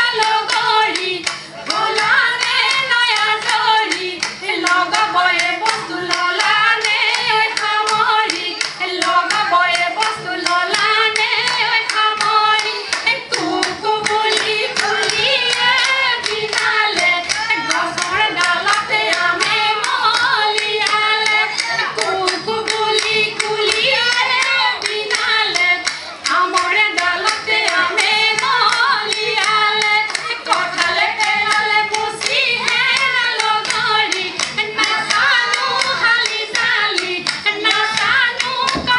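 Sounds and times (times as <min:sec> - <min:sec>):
rhythmic hand clapping: 0:00.0 - 0:38.9
women singing together: 0:00.0 - 0:38.9.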